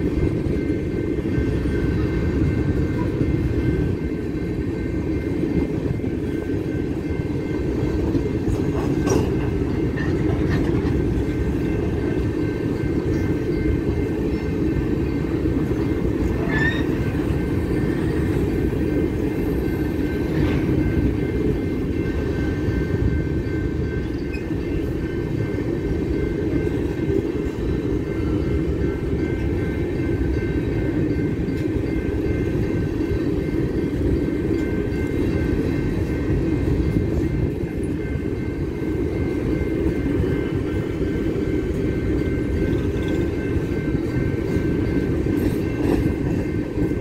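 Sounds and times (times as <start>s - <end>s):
train cars rumbling over rails: 0.0s - 47.0s.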